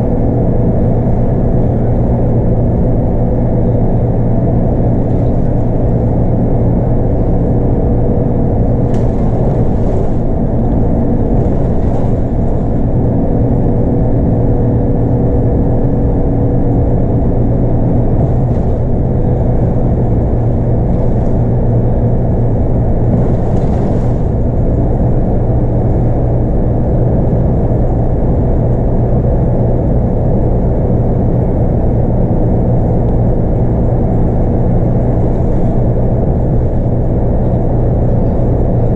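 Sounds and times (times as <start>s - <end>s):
bus diesel engine running: 0.0s - 38.9s
road noise: 0.0s - 38.9s.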